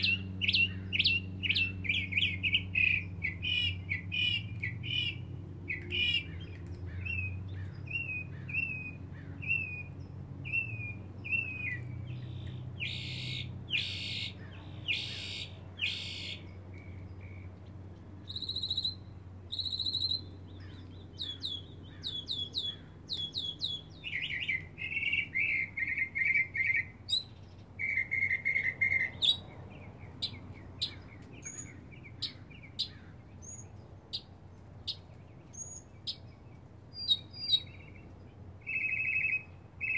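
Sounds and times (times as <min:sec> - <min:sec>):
mockingbird singing: 0:00.0 - 0:39.9.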